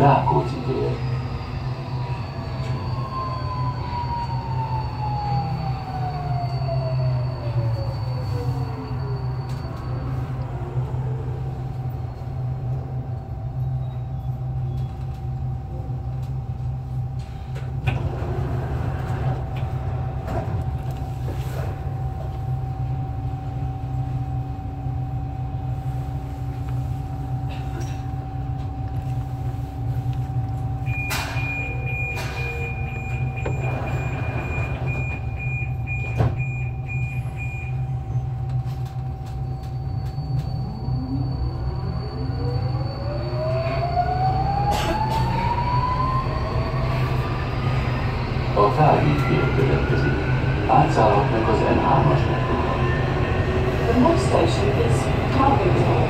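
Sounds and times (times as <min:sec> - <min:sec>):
train rumble in tunnel: 0:00.0 - 0:56.0.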